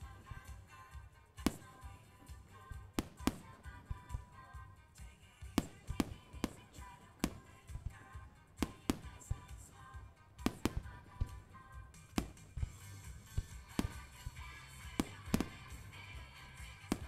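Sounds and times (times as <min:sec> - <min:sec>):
background music: 0:00.0 - 0:17.0
fireworks bangs: 0:00.0 - 0:17.0.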